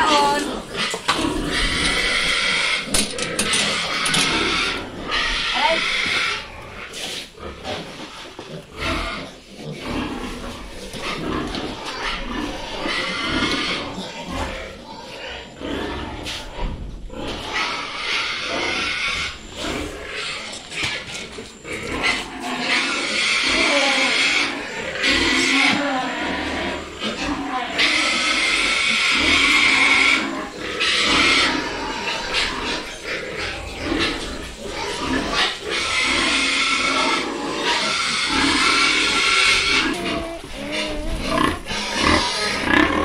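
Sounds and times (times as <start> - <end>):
pigs squealing: 0.0 - 43.0.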